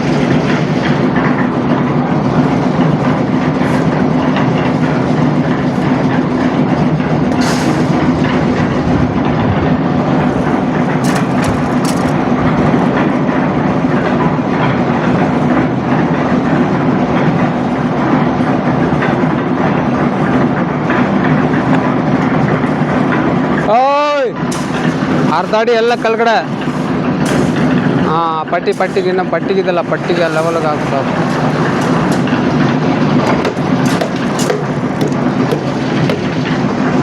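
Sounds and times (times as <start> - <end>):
heavy engine running: 0.0 - 37.0.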